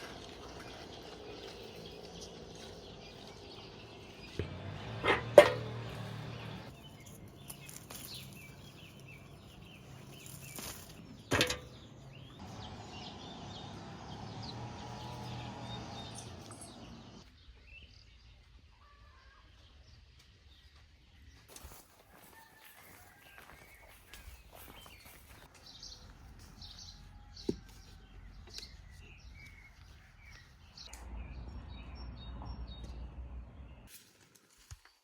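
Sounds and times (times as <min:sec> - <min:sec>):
small birds chirping: 0:00.0 - 0:21.5, 0:23.4 - 0:33.9.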